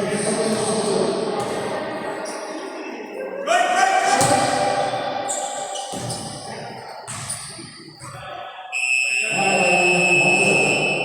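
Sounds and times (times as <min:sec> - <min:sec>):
crowd voices: 0:00.0 - 0:11.0.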